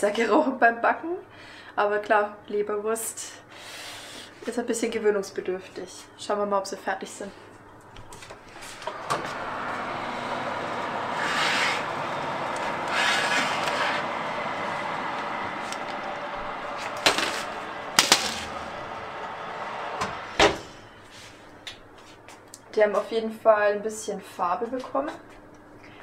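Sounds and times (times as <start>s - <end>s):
kitchen fan running: 3.9s - 26.0s.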